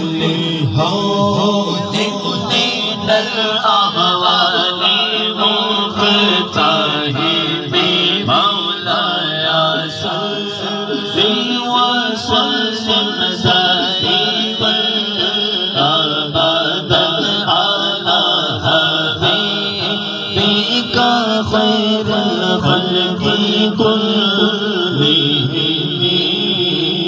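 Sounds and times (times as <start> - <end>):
man singing devotional song: 0.0 - 27.0.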